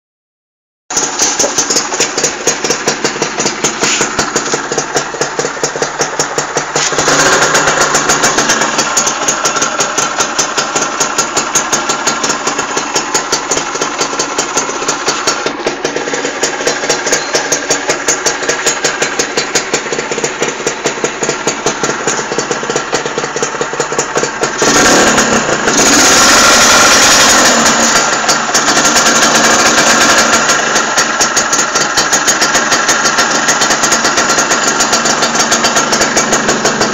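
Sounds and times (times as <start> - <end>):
two-stroke motorcycle idling and revving: 0.9 - 36.9.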